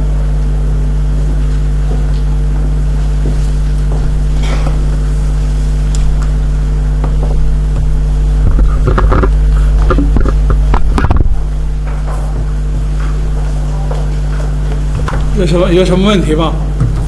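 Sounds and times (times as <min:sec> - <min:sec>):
low hum with higher tones: 0:00.0 - 0:17.0.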